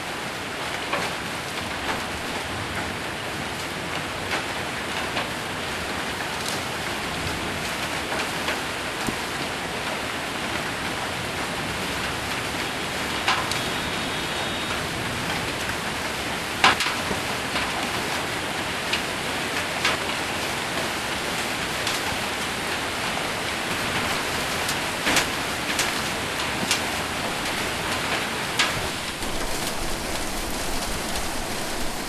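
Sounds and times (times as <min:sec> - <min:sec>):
rain hissing on a roof: 0:00.0 - 0:32.0
hailstones hitting a roof: 0:00.1 - 0:32.0.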